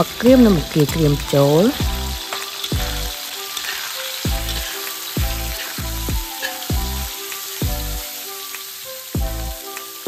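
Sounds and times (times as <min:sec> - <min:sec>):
background music with steady beat: 0:00.0 - 0:10.0
food sizzling in hot oil: 0:00.0 - 0:10.0
metal spatula stirring in wok: 0:00.0 - 0:10.0.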